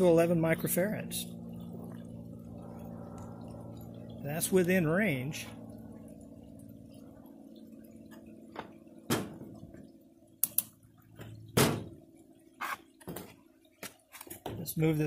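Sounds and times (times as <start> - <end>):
faint low hum: 0.0 - 13.3.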